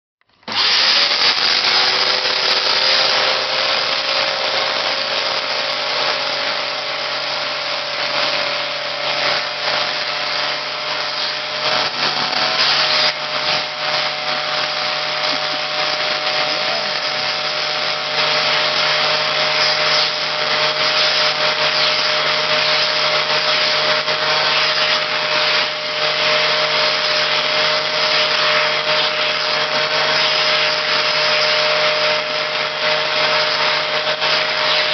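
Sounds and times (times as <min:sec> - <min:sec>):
vacuum cleaner motor whine: 0:00.4 - 0:34.9.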